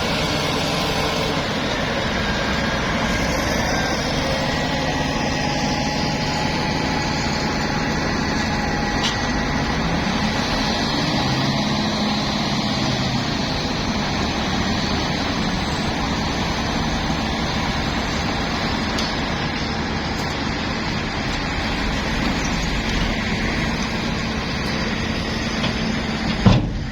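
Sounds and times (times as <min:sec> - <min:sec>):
heavy machinery engine running: 0:00.0 - 0:26.9.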